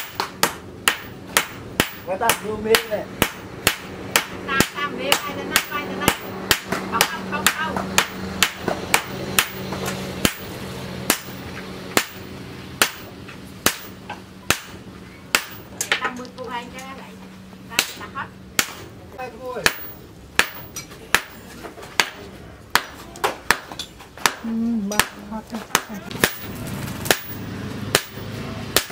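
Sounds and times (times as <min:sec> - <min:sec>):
hammer striking steel on anvil: 0:00.0 - 0:16.2, 0:19.6 - 0:28.9
steady low hum: 0:00.0 - 0:28.9.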